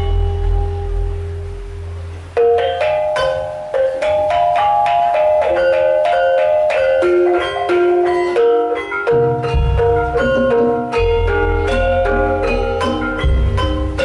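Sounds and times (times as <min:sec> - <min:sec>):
gamelan metallophones and gongs: 0:00.0 - 0:14.0.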